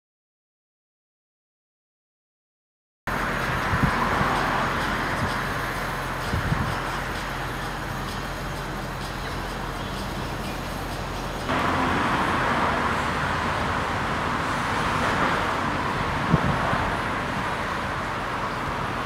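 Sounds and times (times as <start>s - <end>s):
distant road traffic: 3.1s - 19.0s.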